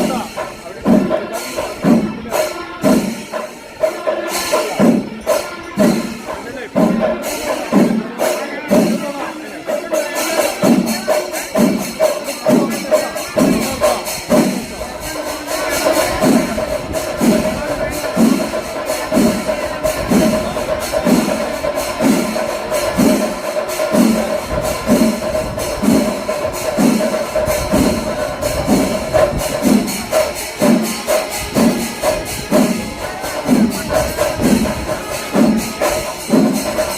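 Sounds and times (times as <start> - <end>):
deep drum strokes: 0.0 - 36.9
small hand cymbals clashing: 0.0 - 36.9.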